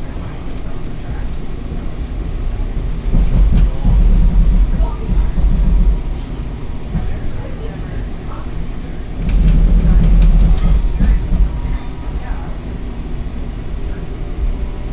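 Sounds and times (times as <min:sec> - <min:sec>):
train rumbling: 0:00.0 - 0:14.9.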